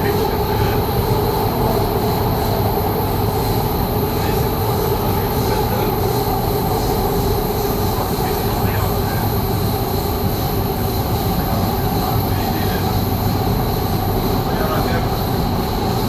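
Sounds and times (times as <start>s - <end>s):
constant high whine: 0.0s - 16.0s
train rumble inside carriage: 0.0s - 16.0s.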